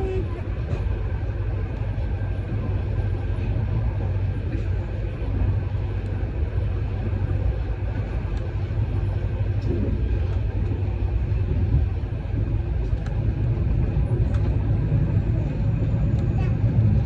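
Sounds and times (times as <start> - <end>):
road vehicle rumble: 0.0 - 17.0.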